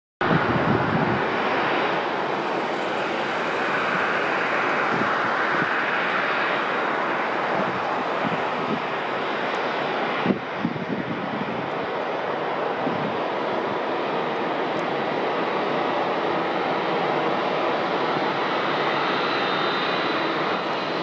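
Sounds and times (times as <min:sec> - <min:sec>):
jet engines rushing: 0:00.2 - 0:21.0.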